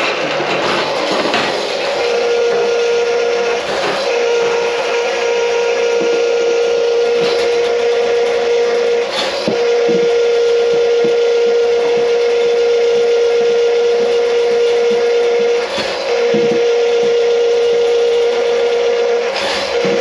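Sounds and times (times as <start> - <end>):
electric motor humming: 0.0 - 20.0.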